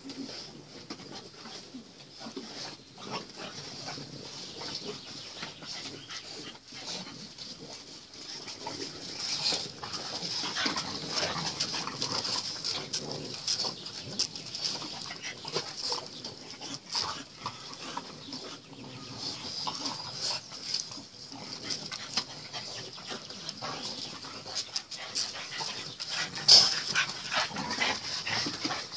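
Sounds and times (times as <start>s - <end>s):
puppies snuffling: 0.0s - 28.9s.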